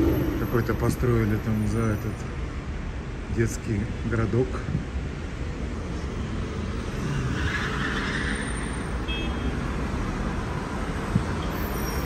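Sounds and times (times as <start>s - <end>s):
passing cars hum: 0.0s - 12.0s.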